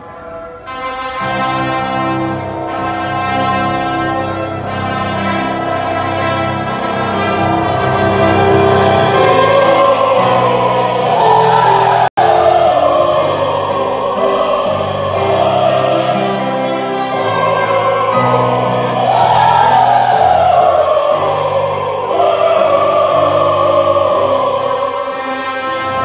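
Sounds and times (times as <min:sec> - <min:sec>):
sustained instrumental accompaniment: 0:00.0 - 0:26.0
operatic singing voice: 0:02.7 - 0:26.0.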